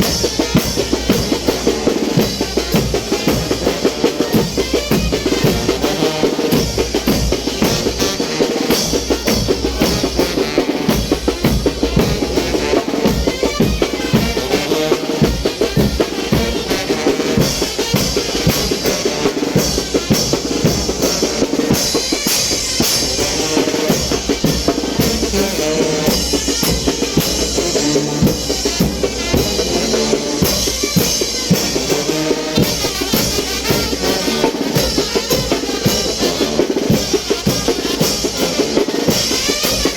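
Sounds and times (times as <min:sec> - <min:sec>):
bass drum and snare beat: 0:00.0 - 0:39.9
brass band playing: 0:00.0 - 0:39.9.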